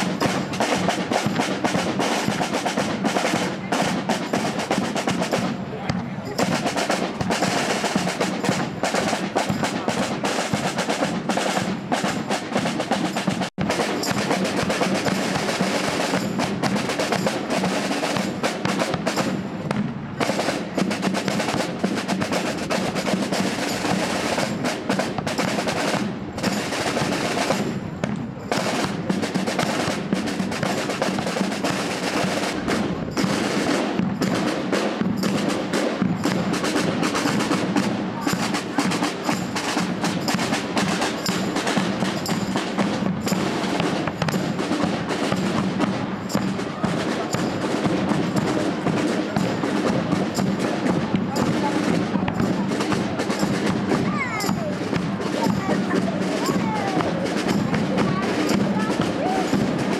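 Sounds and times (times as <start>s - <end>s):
snare drum rolls: 0.0s - 59.9s.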